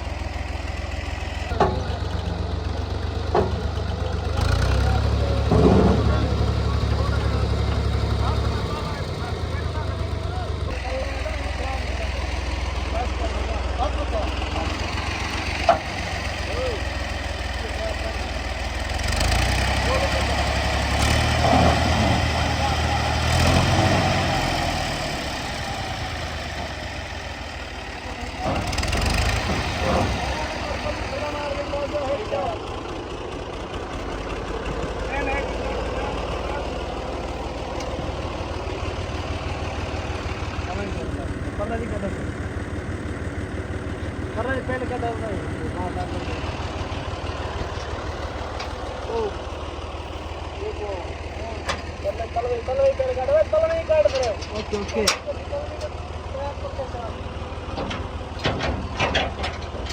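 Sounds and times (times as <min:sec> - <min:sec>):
thresher running: 0:00.0 - 0:59.9
tractor diesel engine running: 0:00.0 - 0:59.9.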